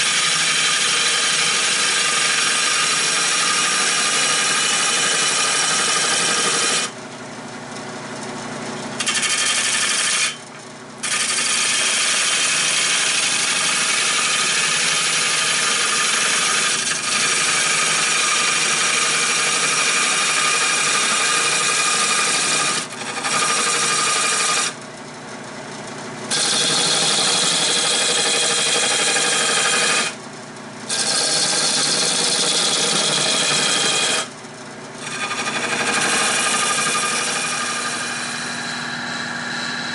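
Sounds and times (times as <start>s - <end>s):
lathe running: 0.0s - 7.0s, 7.7s - 24.8s, 26.3s - 30.2s, 30.9s - 39.9s
lathe tool scraping wood: 0.0s - 7.0s, 8.6s - 24.8s, 26.3s - 30.2s, 30.9s - 39.9s.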